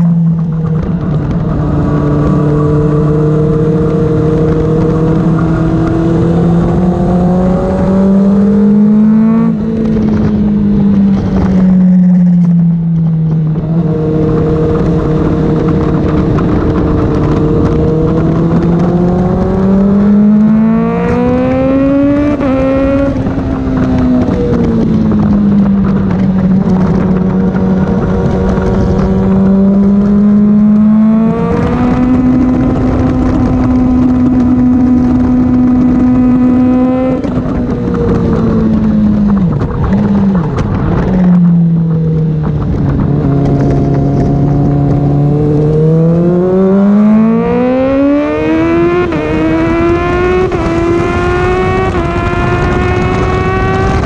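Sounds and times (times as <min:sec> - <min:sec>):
motorcycle engine running hard: 0:00.0 - 0:54.0
wind noise: 0:00.0 - 0:54.0.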